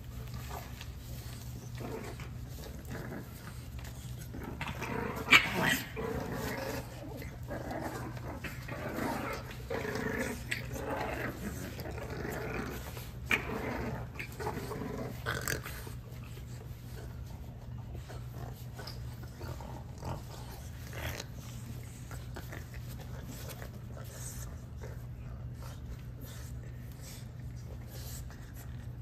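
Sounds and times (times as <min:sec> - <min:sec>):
paws scratching on pads: 0:00.0 - 0:29.0
puppies growling: 0:00.0 - 0:29.0.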